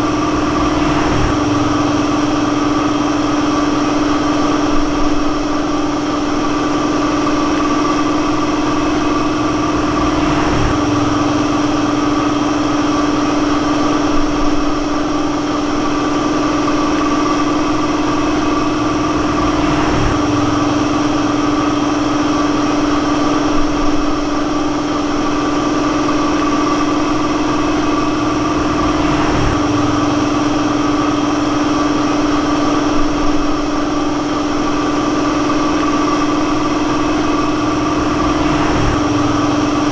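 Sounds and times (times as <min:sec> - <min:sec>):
steady machine drone: 0:00.0 - 0:39.9.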